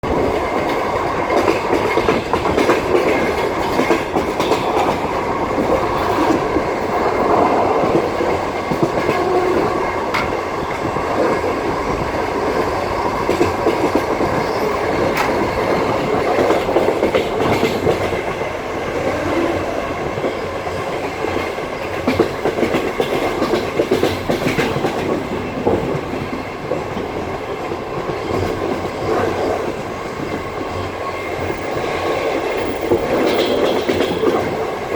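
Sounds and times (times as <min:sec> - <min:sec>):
train wheels clacking: 0:00.0 - 0:34.9
wheels rumbling on rails: 0:00.0 - 0:34.9.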